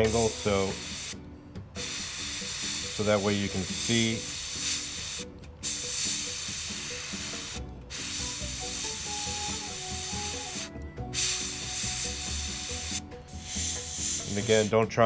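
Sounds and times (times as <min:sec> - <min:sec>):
airbrush hissing: 0:00.0 - 0:01.2, 0:01.8 - 0:14.9
soft background music: 0:00.0 - 0:15.0.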